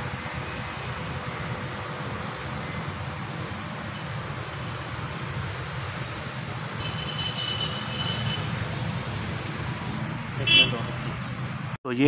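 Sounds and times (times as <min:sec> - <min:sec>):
sprayer hissing: 0:00.0 - 0:09.9.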